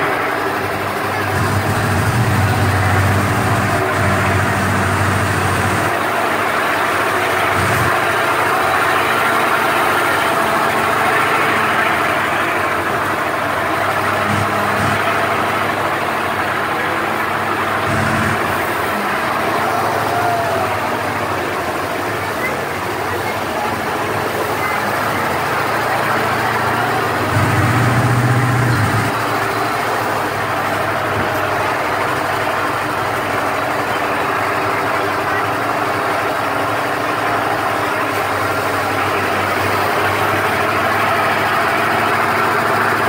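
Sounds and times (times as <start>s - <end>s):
steady rushing noise: 0.0s - 43.0s
truck engine running: 0.0s - 43.0s.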